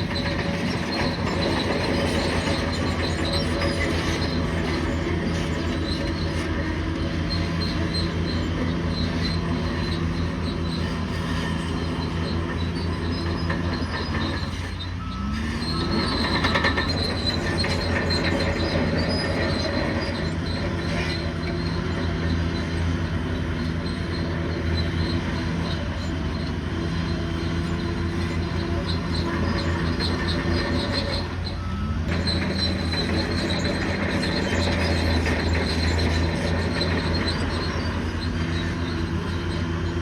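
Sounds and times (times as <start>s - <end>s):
bulldozer diesel engine running: 0.0s - 40.0s
crawler tracks squealing and clattering: 0.0s - 40.0s.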